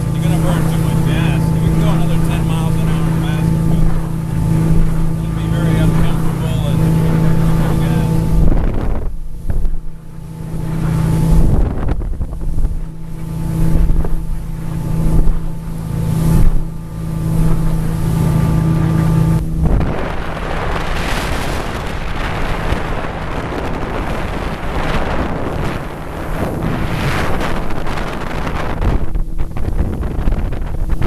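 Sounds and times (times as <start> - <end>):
motorboat engine hum: 0.0 - 31.0
water rushing past hull: 0.0 - 31.0
wind buffeting microphone: 0.0 - 31.0.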